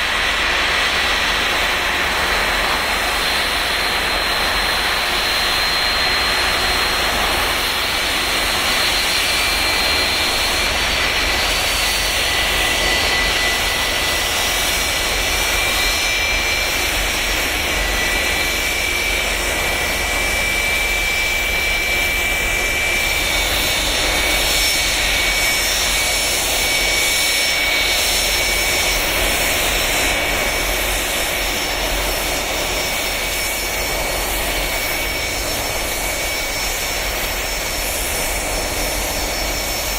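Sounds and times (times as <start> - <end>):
high engine whine: 0.0 - 39.9
jet engines idling: 0.0 - 39.9.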